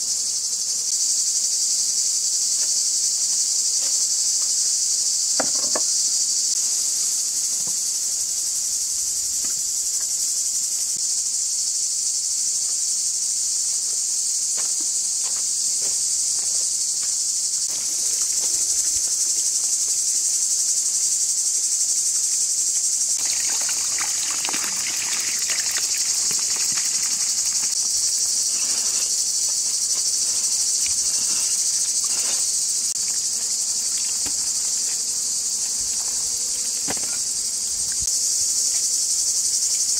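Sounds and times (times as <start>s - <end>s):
insects shrilling: 0.0s - 39.9s.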